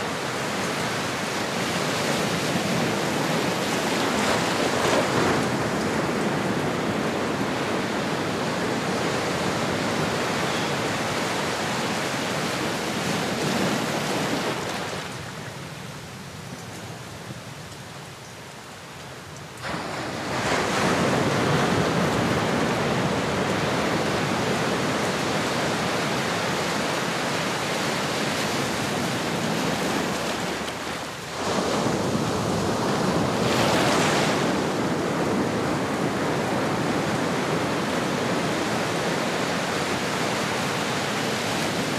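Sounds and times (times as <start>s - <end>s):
ocean waves breaking on shore: 0.0s - 16.4s, 18.5s - 41.9s.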